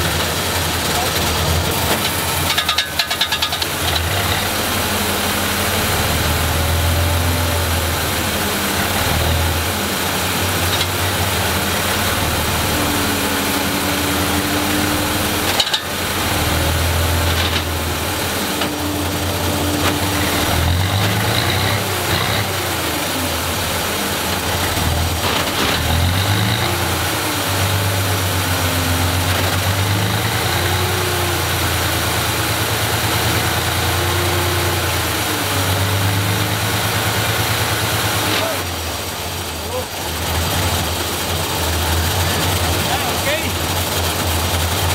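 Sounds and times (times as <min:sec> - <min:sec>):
diesel truck engine revving: 0:00.0 - 0:44.9.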